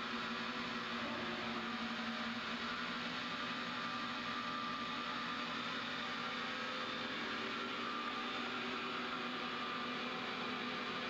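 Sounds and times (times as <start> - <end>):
lathe electrical hum and whir: 0.0 - 11.0.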